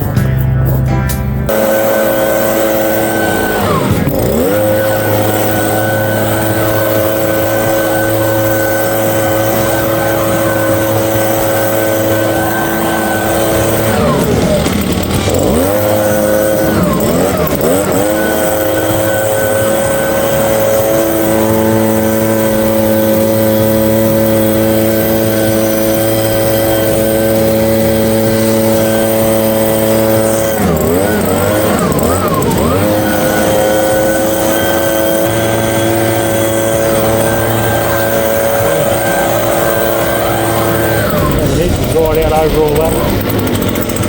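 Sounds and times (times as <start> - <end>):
motorised garden tool running: 0.0 - 44.0.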